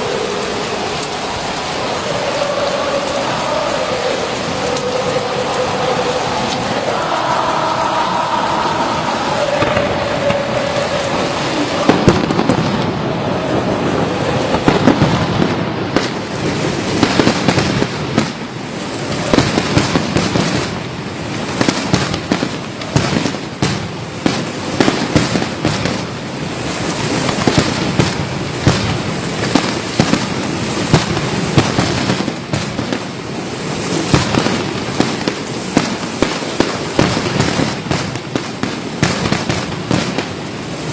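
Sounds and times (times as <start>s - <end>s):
fireworks cracking and popping: 0.0s - 40.9s
steady hiss: 0.0s - 40.9s.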